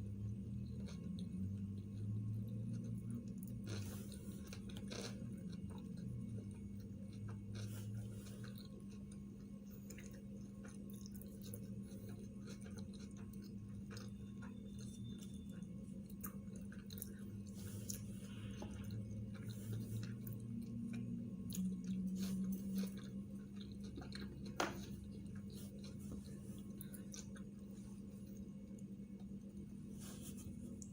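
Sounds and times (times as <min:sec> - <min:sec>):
steady low hum: 0:00.0 - 0:30.9
person chewing: 0:00.6 - 0:30.9.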